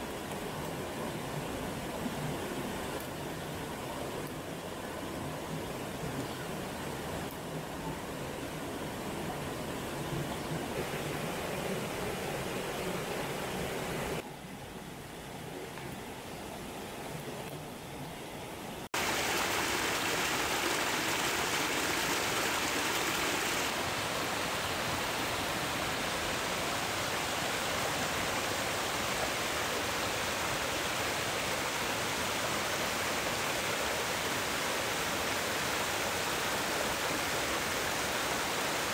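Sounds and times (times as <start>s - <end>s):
creek water rushing over rocks: 0.0s - 14.2s, 18.9s - 38.9s.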